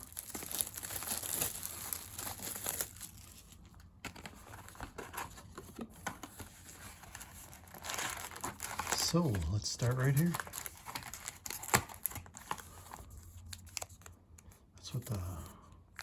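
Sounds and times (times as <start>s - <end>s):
plastic packaging rustling and tearing: 0.0s - 14.2s.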